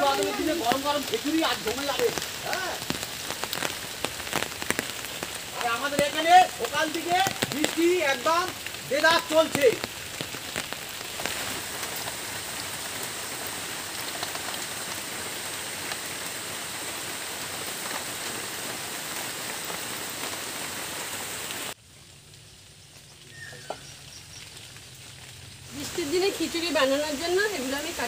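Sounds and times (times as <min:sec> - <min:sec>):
rain on foliage: 0:00.0 - 0:28.0.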